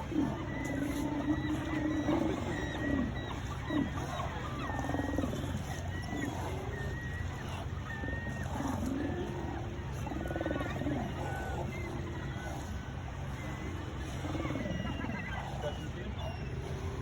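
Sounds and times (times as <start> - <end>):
birds calling: 0.0 - 17.0
sea lions roaring: 0.0 - 17.0.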